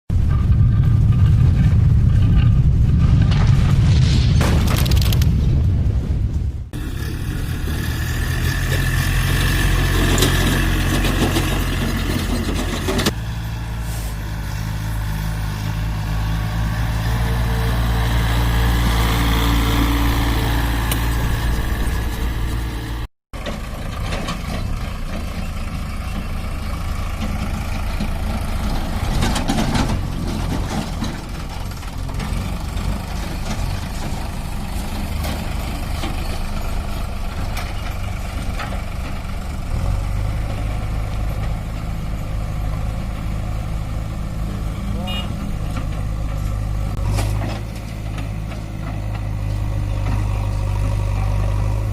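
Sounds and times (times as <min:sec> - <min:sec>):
diesel tractor engine running: 0:00.1 - 0:03.8, 0:04.4 - 0:51.9.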